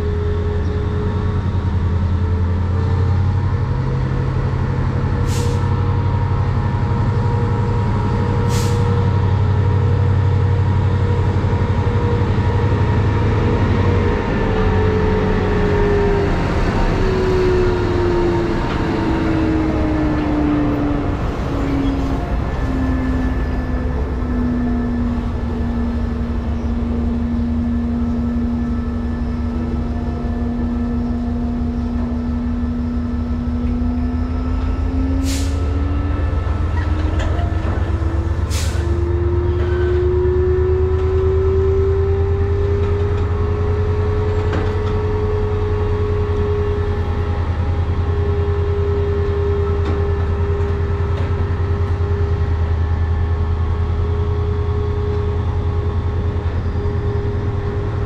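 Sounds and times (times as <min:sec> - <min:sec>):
diesel train engine rumbling: 0:00.0 - 0:58.0.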